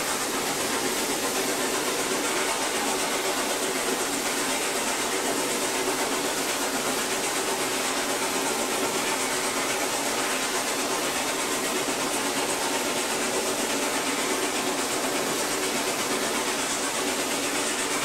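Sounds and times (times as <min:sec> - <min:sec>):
steam hiss: 0:00.0 - 0:18.0.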